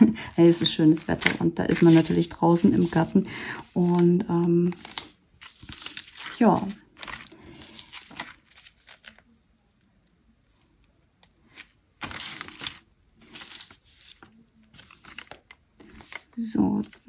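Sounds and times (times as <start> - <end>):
plastic bags crinkling: 0.6 - 9.6, 10.4 - 17.0.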